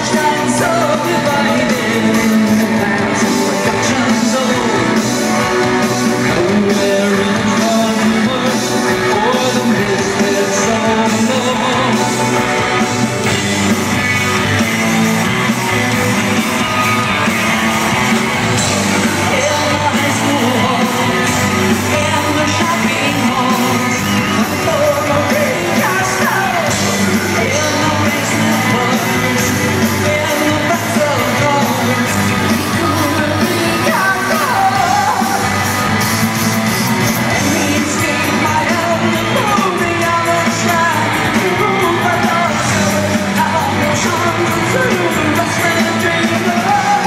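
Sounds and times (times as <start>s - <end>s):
live rock band playing: 0.0s - 47.0s
man singing lead vocal: 0.0s - 47.0s.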